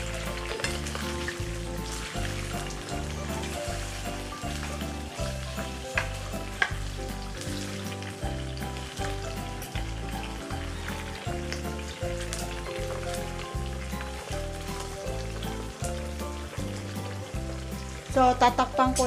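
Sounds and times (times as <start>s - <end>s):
background music with bass: 0.0s - 19.0s
chicken wings frying in oil: 0.0s - 19.0s
oil popping: 0.0s - 19.0s.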